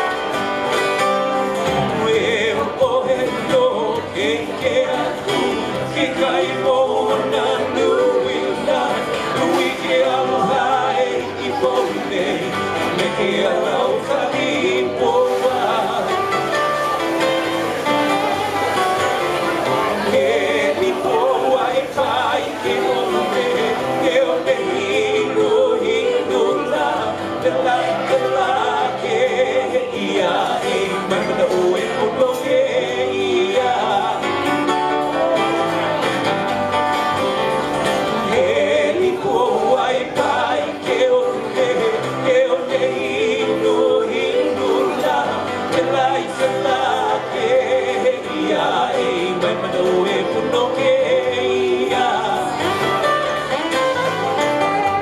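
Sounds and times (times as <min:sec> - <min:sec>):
strummed acoustic guitars: 0:00.0 - 0:55.0
man singing into a microphone: 0:01.0 - 0:36.1, 0:37.8 - 0:55.0.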